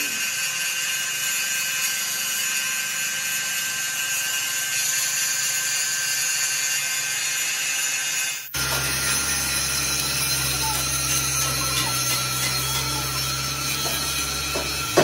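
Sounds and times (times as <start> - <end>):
power tool hissing whine: 0.0 - 15.0.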